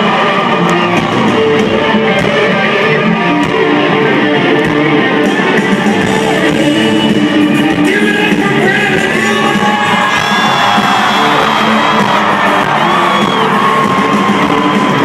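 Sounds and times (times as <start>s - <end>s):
country-rock band playing: 0.0s - 15.0s.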